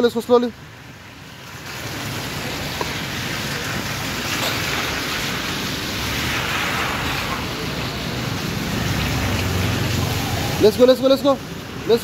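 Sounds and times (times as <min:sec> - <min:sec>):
rain on wet paving: 0:00.0 - 0:12.0.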